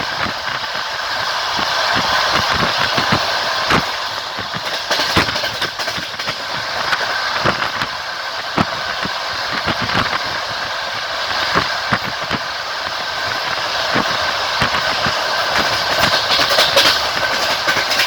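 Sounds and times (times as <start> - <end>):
train wheels rolling on rails: 0.0 - 18.0
wheel and track clicks: 0.0 - 18.0.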